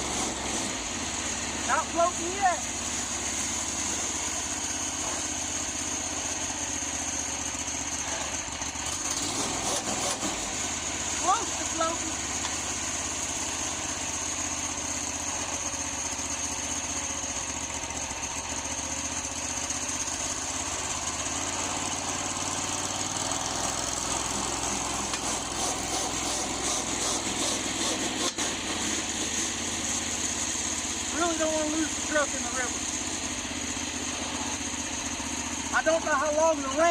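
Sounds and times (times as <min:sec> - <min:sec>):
gasoline engine running at low speed: 0:00.0 - 0:36.9.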